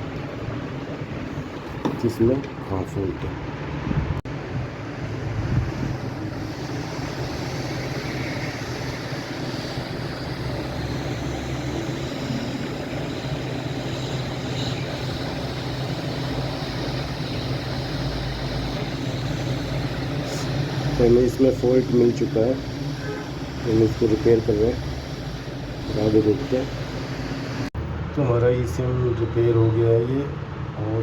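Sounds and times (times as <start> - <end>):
rushing machine noise with hum: 3.0 - 28.1.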